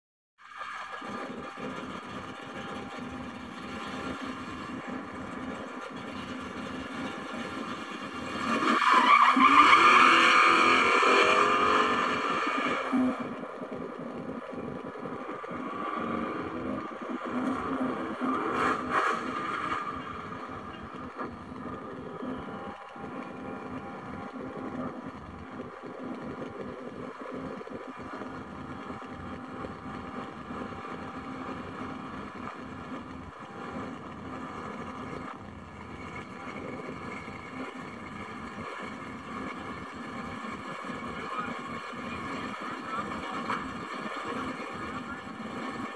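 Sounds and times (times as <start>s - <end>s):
race car engines droning: 0.5s - 45.9s.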